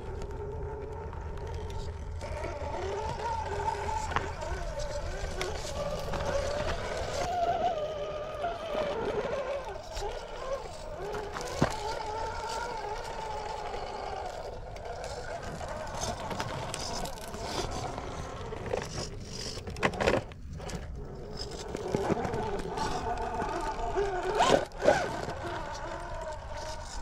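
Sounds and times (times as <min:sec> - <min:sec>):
toy car motor whining: 0:00.0 - 0:27.0
tyres and chassis clicking on rock: 0:00.0 - 0:27.0.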